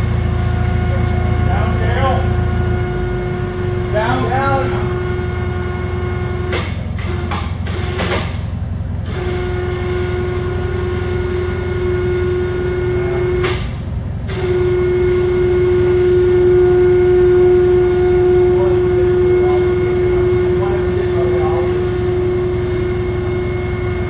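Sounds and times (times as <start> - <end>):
constant low rumble: 0.0 - 24.0
hoist motor humming: 0.0 - 24.0.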